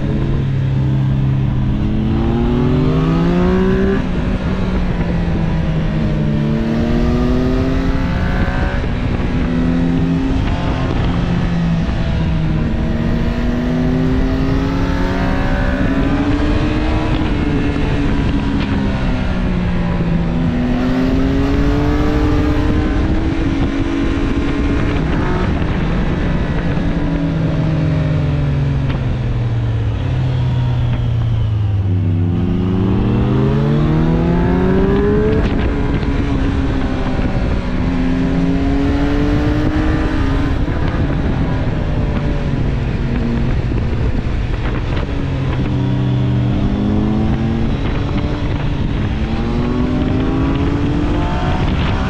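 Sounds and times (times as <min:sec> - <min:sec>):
motorcycle engine revving: 0:00.0 - 0:52.0
wind rush: 0:00.0 - 0:52.0.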